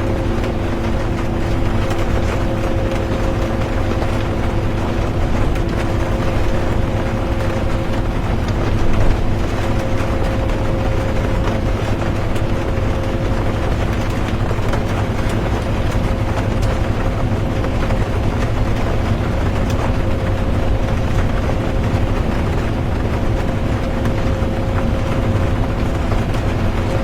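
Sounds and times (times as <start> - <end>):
bus engine and road rumble: 0.0 - 27.0
constant tone: 0.0 - 27.0
faint rain patter: 0.0 - 27.0.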